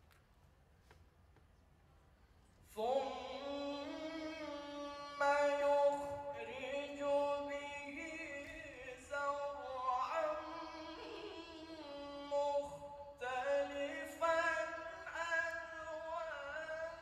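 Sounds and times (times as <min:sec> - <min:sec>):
man reciting melodically: 0:02.6 - 0:17.0.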